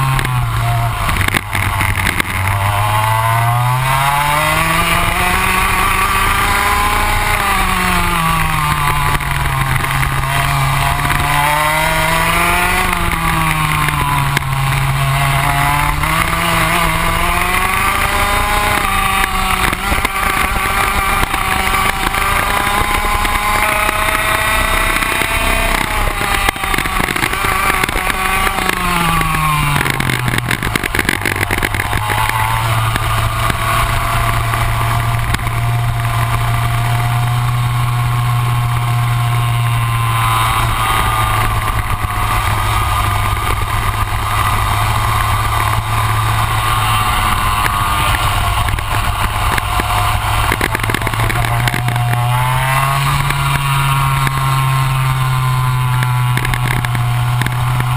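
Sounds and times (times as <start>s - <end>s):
kart engine at speed: 0.0s - 57.9s.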